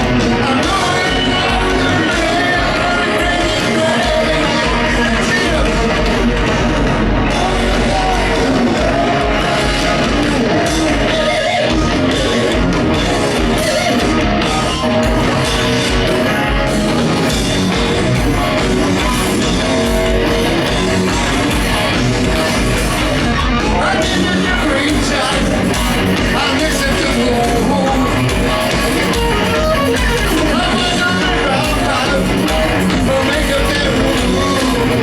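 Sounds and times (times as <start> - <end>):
person singing: 0.0 - 17.5, 18.1 - 35.0
distorted electric guitar: 0.0 - 35.0
drums: 0.0 - 35.0.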